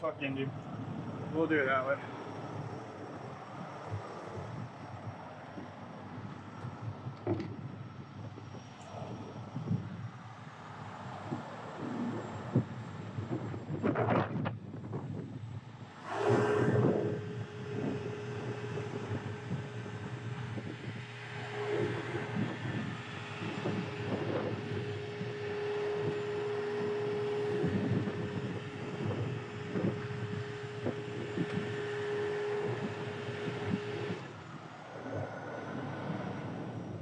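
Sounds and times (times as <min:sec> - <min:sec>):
mechanical rumble: 0:00.0 - 0:37.0
tow truck whine: 0:00.0 - 0:37.0.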